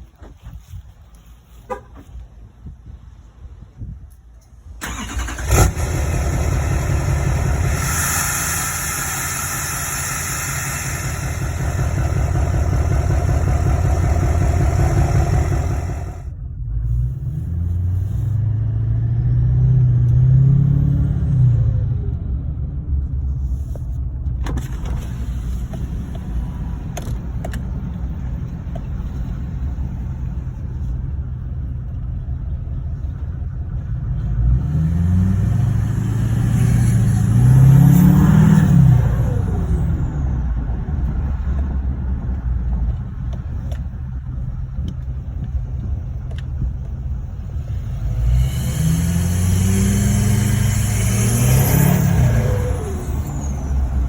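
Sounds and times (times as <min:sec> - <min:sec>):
diesel truck exhaust droning: 0:04.8 - 0:54.0.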